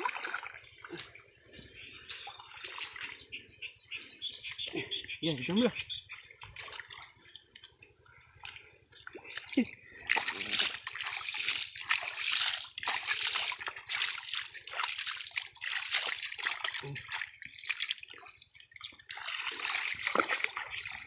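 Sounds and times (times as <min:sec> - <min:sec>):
muddy water splashing: 0:00.0 - 0:21.0.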